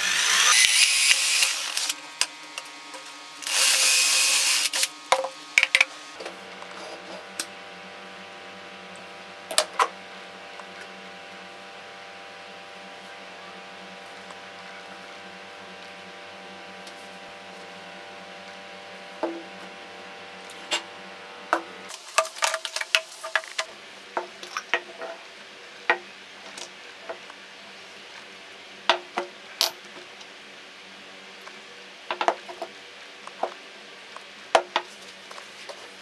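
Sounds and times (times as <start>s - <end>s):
electrical hum: 0.0s - 28.9s.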